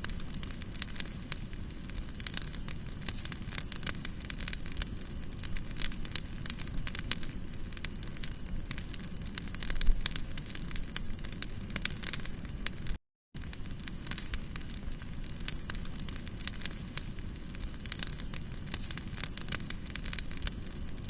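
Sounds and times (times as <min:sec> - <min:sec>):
campfire crackling: 0:00.0 - 0:21.0
low rumble of burning wood: 0:00.0 - 0:21.0.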